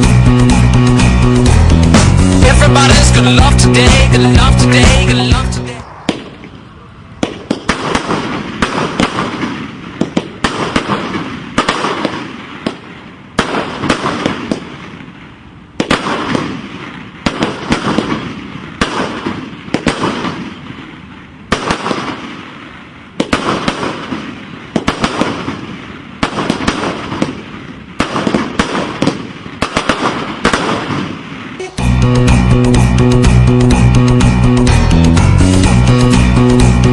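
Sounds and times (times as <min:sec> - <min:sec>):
fireworks bangs and crackling: 0:00.0 - 0:36.8.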